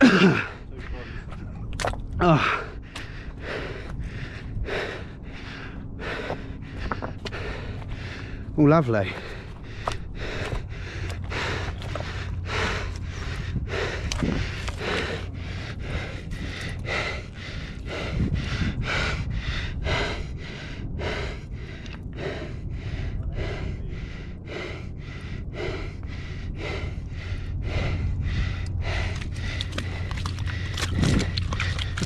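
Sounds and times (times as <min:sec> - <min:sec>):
man panting heavily: 0:00.0 - 0:32.0.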